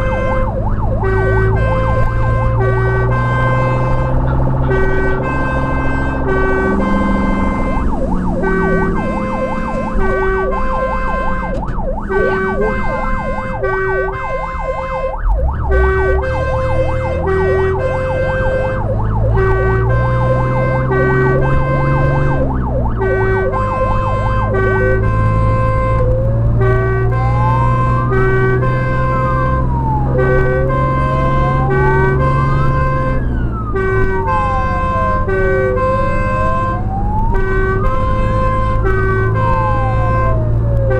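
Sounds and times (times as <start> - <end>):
electronic siren yelping and wailing: 0.0 - 40.9
truck engine rumbling: 0.0 - 40.9
two-tone fire engine horn: 0.0 - 40.9.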